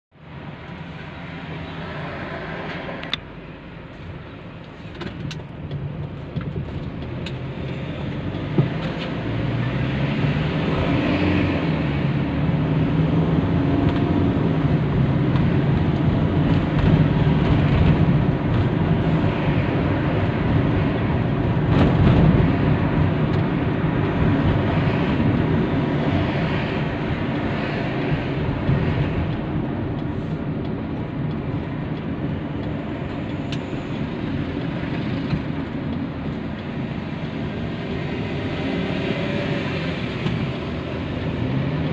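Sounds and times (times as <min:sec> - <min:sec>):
road noise: 0:00.1 - 0:41.9
car engine accelerating: 0:06.8 - 0:41.9.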